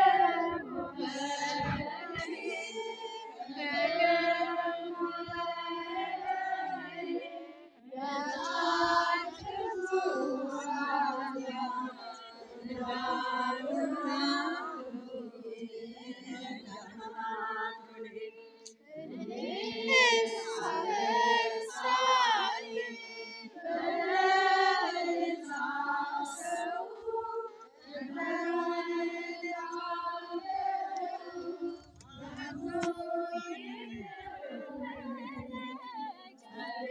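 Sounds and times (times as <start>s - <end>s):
group singing a hymn: 0.0s - 36.9s.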